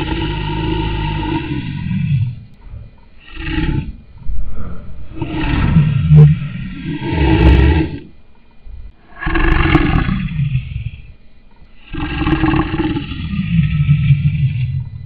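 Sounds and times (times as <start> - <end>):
lion roaring: 0.0 - 8.2, 9.0 - 11.2, 11.8 - 15.0.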